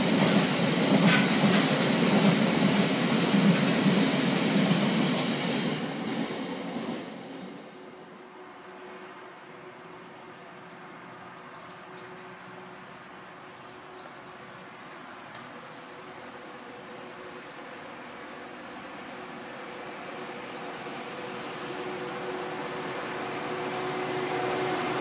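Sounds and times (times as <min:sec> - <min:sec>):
distant train rumble: 0:00.0 - 0:25.0.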